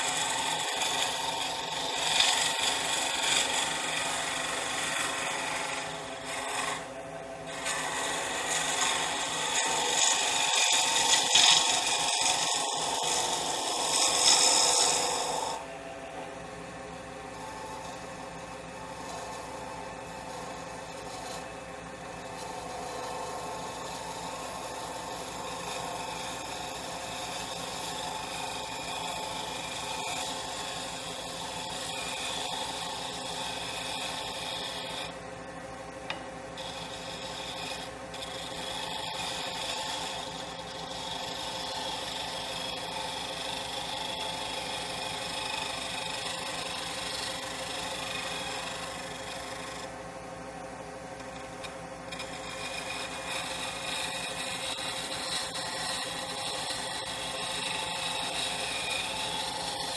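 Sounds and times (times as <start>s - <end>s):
gouge scraping wood: 0.0s - 15.7s, 17.1s - 35.3s, 36.0s - 50.0s, 50.7s - 59.9s
lathe motor hum: 0.0s - 59.9s.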